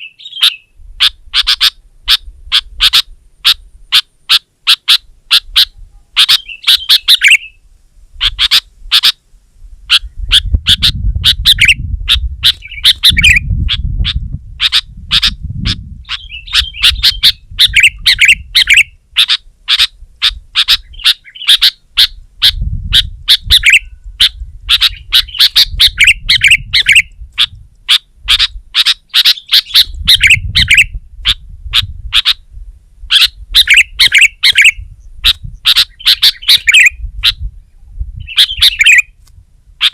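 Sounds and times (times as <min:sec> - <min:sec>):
bulbuls chirping: 0:00.0 - 0:07.6, 0:08.2 - 0:09.2, 0:09.8 - 0:32.5, 0:33.1 - 0:39.2.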